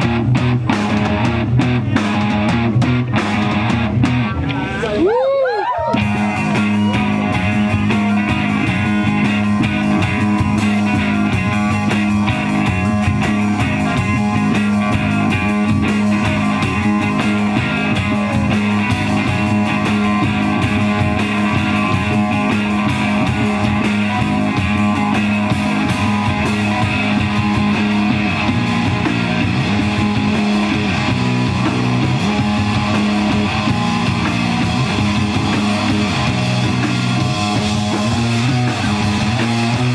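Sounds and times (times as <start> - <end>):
psychedelic rock band playing: 0.0 - 39.9.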